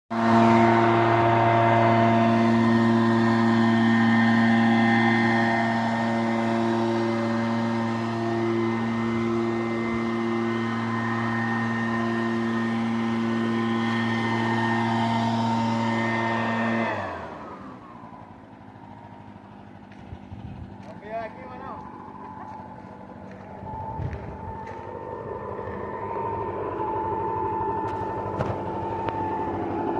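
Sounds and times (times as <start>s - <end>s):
machine drone winding down: 0.1s - 29.9s.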